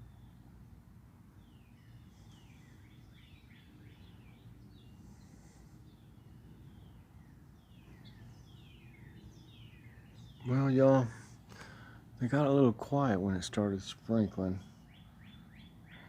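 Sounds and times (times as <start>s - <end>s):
low steady hum: 0.0s - 16.0s
songbirds chirping faintly: 0.0s - 16.0s.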